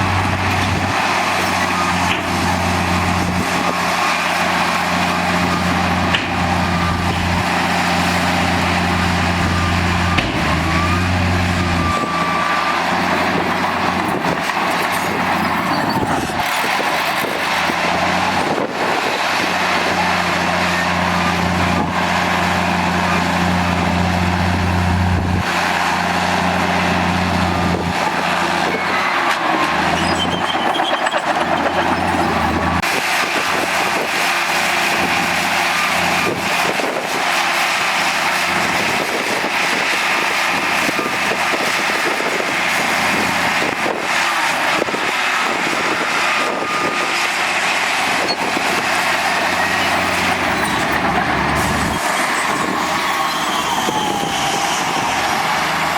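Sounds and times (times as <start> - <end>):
heavy diesel machinery engine: 0.0 - 55.9.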